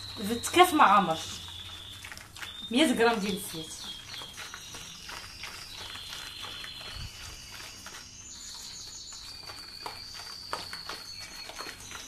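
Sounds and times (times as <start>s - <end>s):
thin steady high tone: 0.0s - 12.0s.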